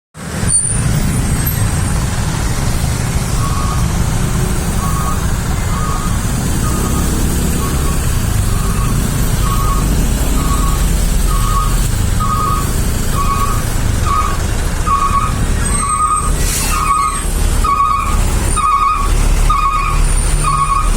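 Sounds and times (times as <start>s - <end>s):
heavy road traffic rumble: 0.2s - 20.9s
short electronic beeps: 3.3s - 20.9s.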